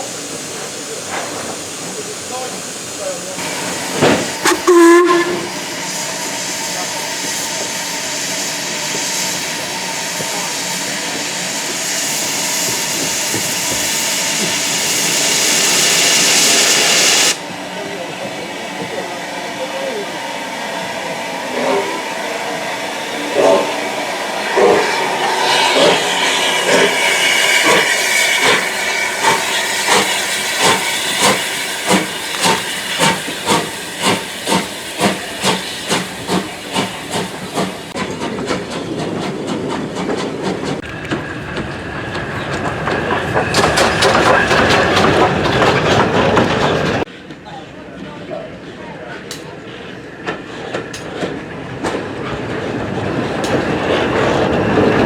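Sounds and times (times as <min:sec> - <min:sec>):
steam locomotive hissing steam: 0:00.0 - 0:55.0
steam locomotive exhaust beats: 0:00.1 - 0:47.4.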